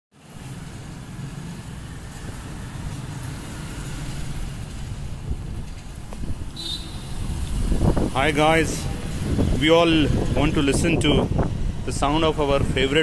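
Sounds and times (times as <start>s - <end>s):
low rumble of traffic: 0.1s - 13.0s.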